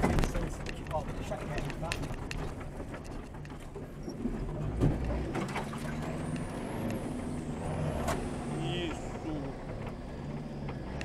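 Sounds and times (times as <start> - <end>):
car engine from inside cabin: 0.0 - 11.0
knocks and rattles: 0.0 - 11.0.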